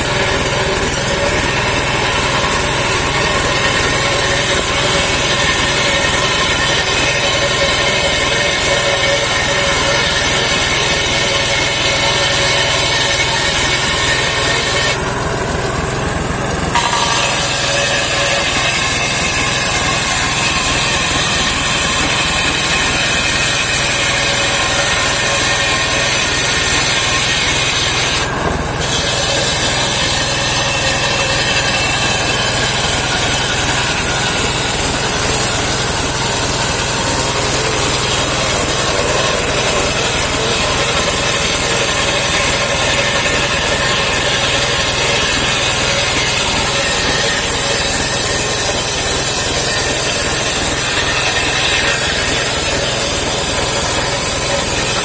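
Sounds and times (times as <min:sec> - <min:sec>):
circular sawmill sawing log: 0:00.0 - 0:55.0.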